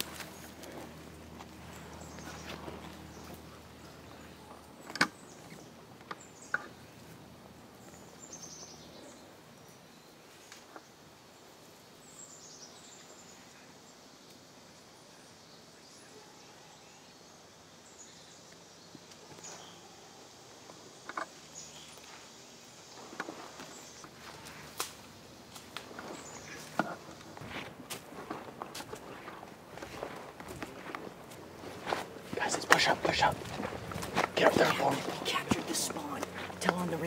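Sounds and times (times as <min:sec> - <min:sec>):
birds chirping: 0:00.0 - 0:14.1, 0:15.0 - 0:37.0.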